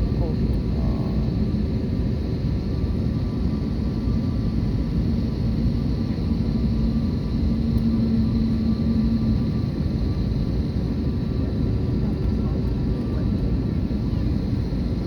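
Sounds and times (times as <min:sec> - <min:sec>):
jet engines rumbling: 0:00.0 - 0:15.0
steady engine hum: 0:00.0 - 0:15.0.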